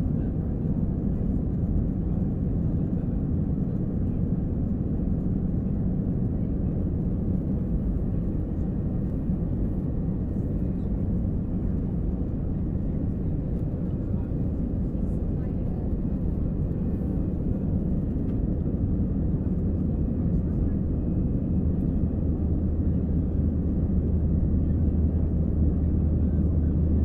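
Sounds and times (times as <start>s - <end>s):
airplane engine rumble: 0.0s - 27.0s.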